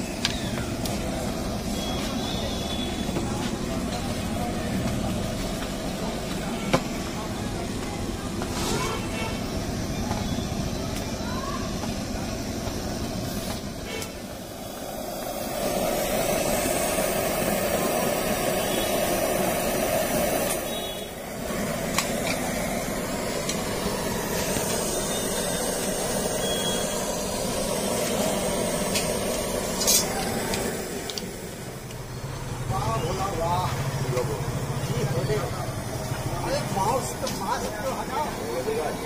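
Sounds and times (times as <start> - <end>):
street traffic rushing: 0.0 - 39.0.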